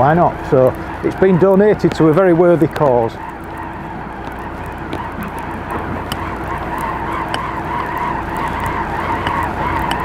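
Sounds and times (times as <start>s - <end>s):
faint clicks: 0.0s - 10.0s.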